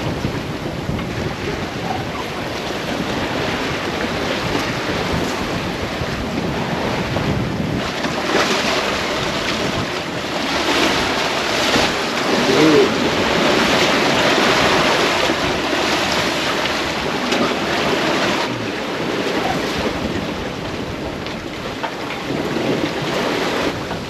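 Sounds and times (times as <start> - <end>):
ocean waves: 0.0 - 24.0
water rushing along hull: 0.0 - 24.0
wind buffeting microphone: 0.0 - 24.0.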